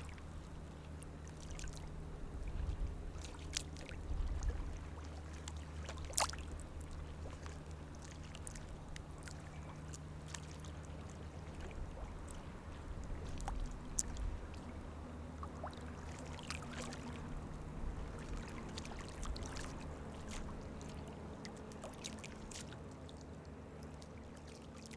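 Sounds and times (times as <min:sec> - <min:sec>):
low hum: 0:00.0 - 0:24.6
small waves lapping: 0:00.0 - 0:24.9.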